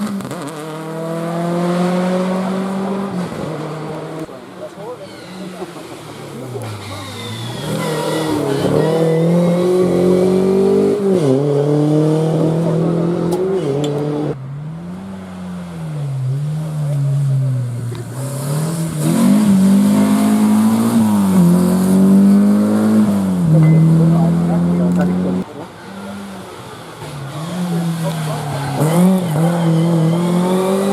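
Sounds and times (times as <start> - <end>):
rally car engines revving: 0.0 - 30.9.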